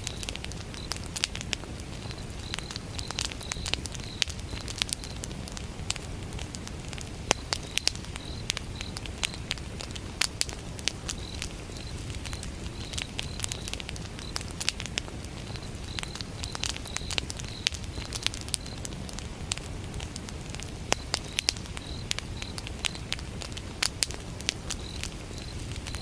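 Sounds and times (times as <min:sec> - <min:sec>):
crickets chirping: 0:00.0 - 0:26.0
wood fire crackling: 0:00.0 - 0:26.0.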